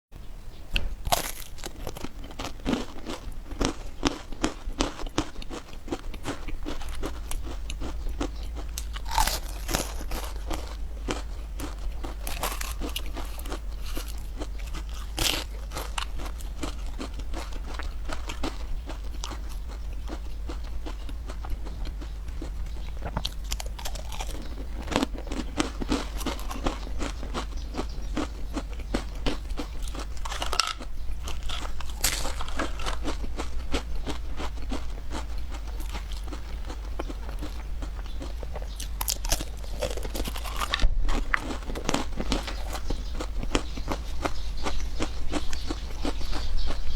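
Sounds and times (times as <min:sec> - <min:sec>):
steady low hum: 0:00.2 - 0:46.9
person chewing crunchy food: 0:00.8 - 0:46.9.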